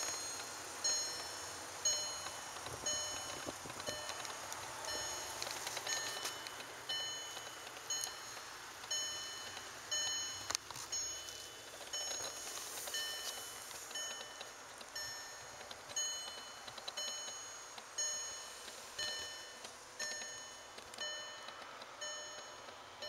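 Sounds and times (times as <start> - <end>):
car warning chime: 0.0 - 23.0.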